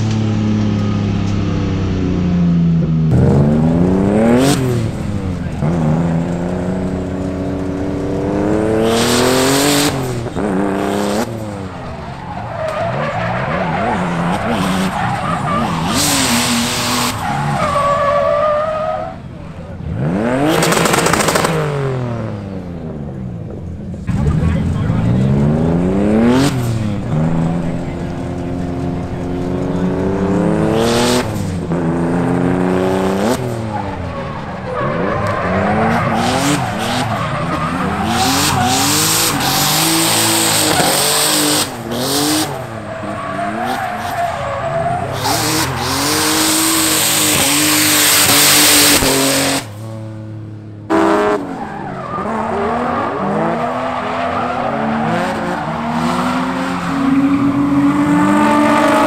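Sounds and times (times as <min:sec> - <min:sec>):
car engines revving: 0:00.0 - 0:59.0
tyres squealing and skidding: 0:03.7 - 0:21.4, 0:24.0 - 0:49.8, 0:50.9 - 0:59.0.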